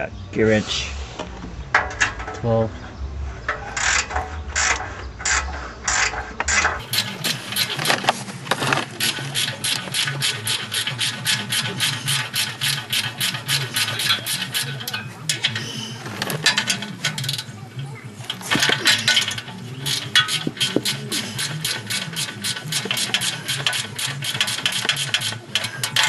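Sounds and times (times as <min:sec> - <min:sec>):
ratcheting wrench clicking: 0:03.5 - 0:26.0.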